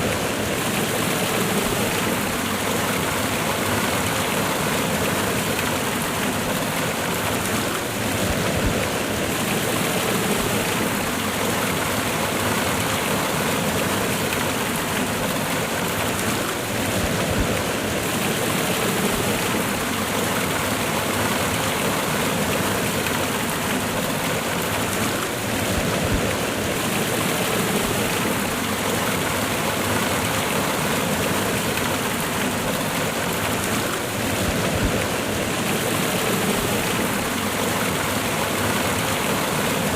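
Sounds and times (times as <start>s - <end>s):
waterfall splashing over rocks: 0.0s - 39.9s.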